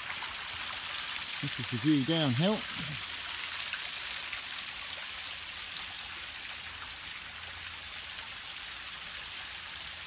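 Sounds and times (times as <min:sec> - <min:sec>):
water running in stone channel: 0:00.0 - 0:10.0.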